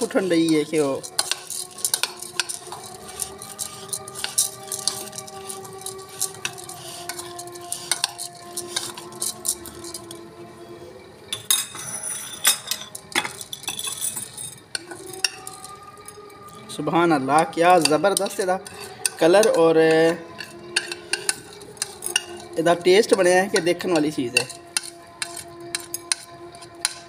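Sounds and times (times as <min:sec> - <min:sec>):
crisp lentils rattling: 0:00.0 - 0:10.2, 0:11.9 - 0:27.0
metal spoon scraping ceramic bowl: 0:00.0 - 0:10.2, 0:11.3 - 0:16.6, 0:17.2 - 0:27.0.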